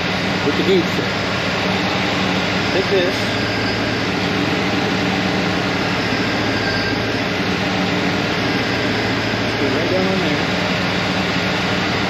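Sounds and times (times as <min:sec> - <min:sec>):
air conditioning rushing: 0:00.0 - 0:12.0
car engine idling: 0:00.0 - 0:12.0.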